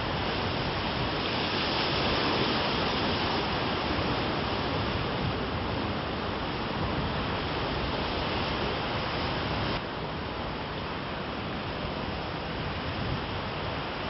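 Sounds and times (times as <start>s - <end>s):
surf washing on sandy beach: 0.0s - 14.0s.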